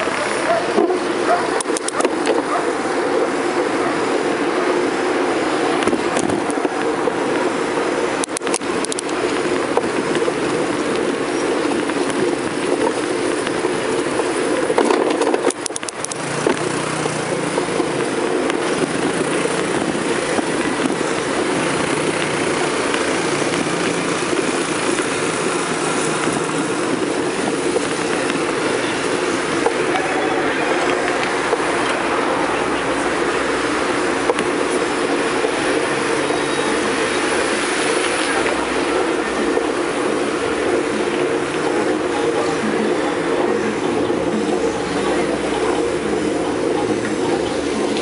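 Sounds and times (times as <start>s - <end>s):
bicycle tyres on road: 0.0s - 48.0s
wind on microphone: 0.0s - 48.0s.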